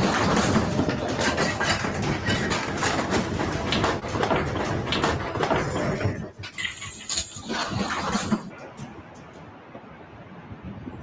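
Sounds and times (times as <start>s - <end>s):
building contents knocking and rattling: 0.0s - 9.4s.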